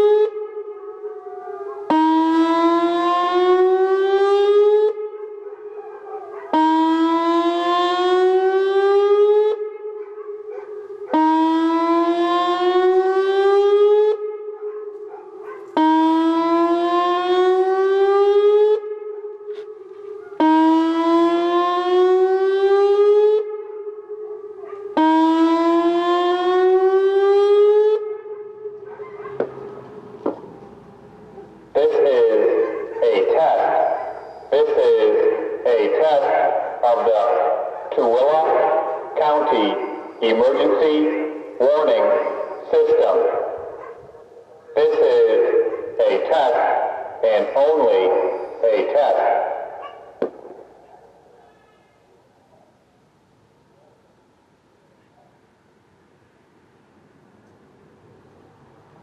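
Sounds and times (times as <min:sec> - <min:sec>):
warning siren whoop tone: 0:00.0 - 0:50.8.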